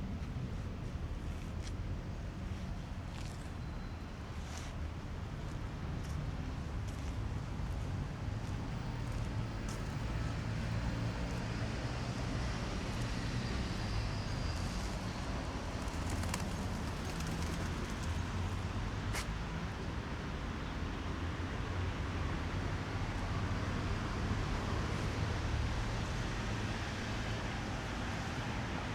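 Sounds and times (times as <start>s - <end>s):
traffic rumble: 0.0s - 28.9s.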